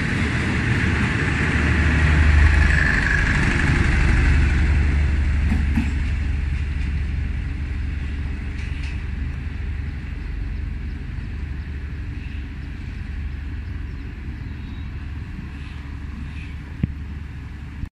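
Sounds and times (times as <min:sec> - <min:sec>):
train rumbling on rails: 0:00.0 - 0:17.9.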